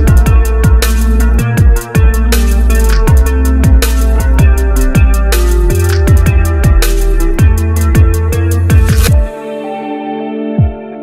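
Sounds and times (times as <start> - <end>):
electronic drum beat: 0.0 - 9.3
held synth chords: 0.0 - 11.0.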